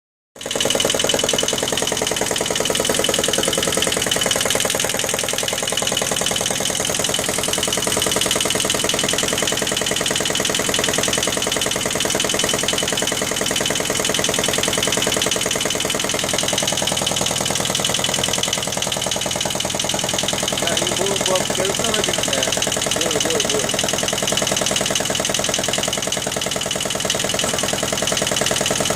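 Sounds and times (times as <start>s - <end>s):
marine diesel engine running: 0.4s - 28.9s.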